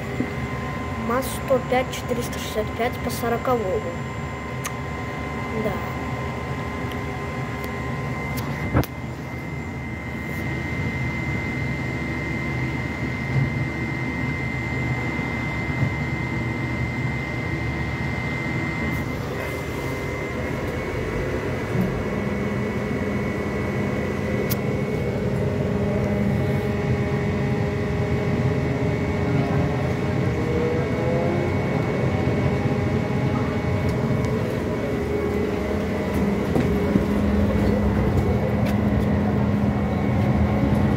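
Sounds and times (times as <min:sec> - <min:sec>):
low hum: 0:00.0 - 0:40.9
trolleybus high whine: 0:00.0 - 0:40.9.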